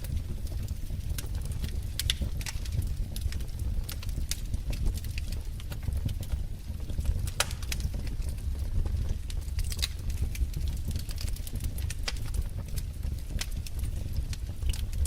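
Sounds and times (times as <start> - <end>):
low rumble of burning: 0.0 - 15.0
wood fire crackling: 0.0 - 15.0.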